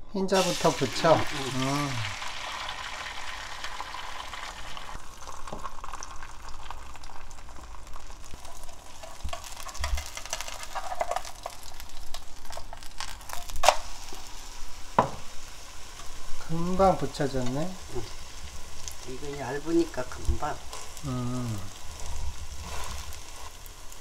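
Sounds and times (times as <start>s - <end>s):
egg white sizzling in oil: 0.3s - 24.0s.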